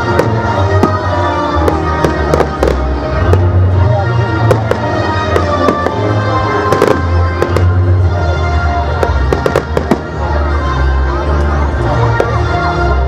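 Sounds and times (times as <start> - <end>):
fireworks bangs and crackles: 0.0 - 10.6, 11.2 - 13.0.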